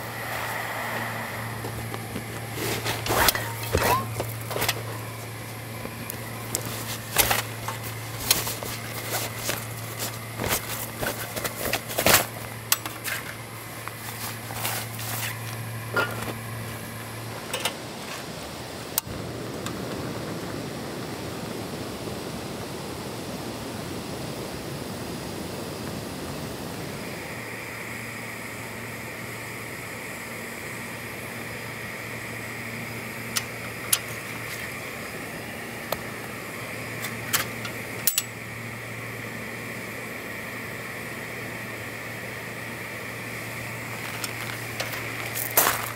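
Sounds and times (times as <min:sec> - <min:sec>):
gas heater hissing: 0:00.0 - 0:45.9
high steady hiss tone: 0:00.0 - 0:45.9.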